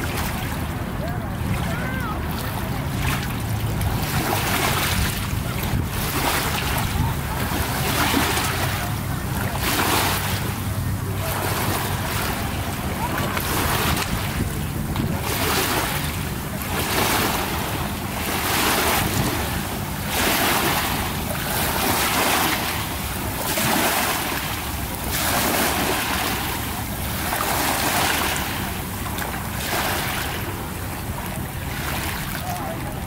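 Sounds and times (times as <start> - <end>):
gentle waves on rocky shore: 0.0 - 33.0
wind rumble on microphone: 0.0 - 33.0.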